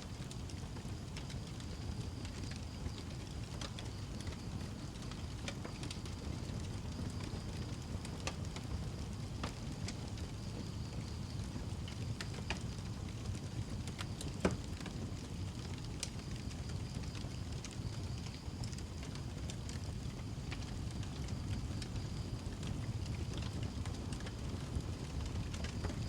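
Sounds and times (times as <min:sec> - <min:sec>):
fire crackles and pops: 0:00.0 - 0:26.0
wood fire burning: 0:00.0 - 0:26.0.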